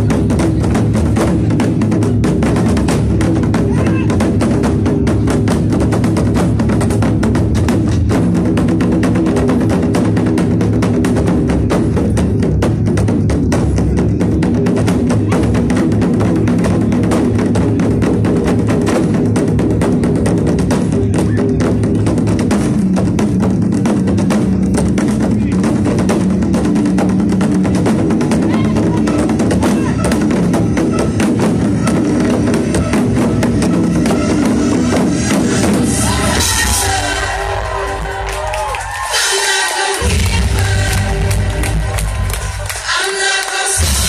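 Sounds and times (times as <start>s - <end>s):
live stage music with drumming: 0.0s - 44.0s.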